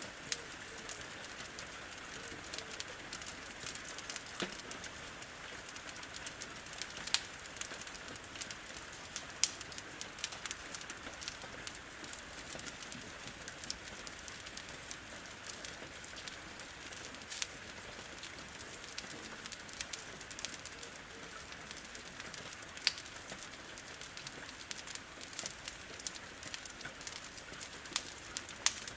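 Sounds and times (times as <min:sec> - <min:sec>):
rain hiss: 0:00.0 - 0:28.9
wood fire crackling and popping: 0:00.0 - 0:28.9.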